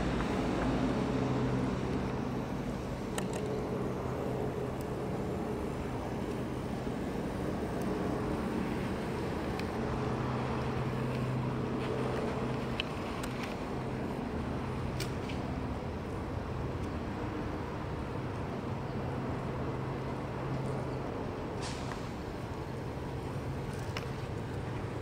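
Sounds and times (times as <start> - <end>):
city background noise: 0.0 - 25.0
low mechanical hum: 0.0 - 25.0.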